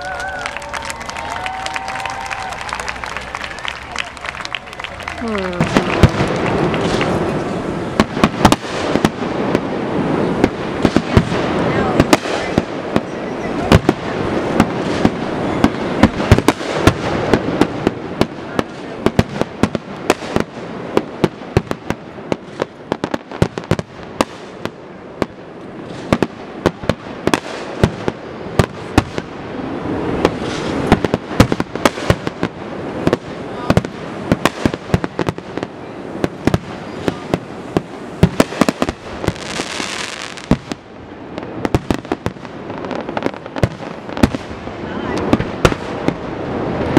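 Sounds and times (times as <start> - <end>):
fireworks bursting: 0.0 - 46.9
fireworks crackling: 0.0 - 46.9.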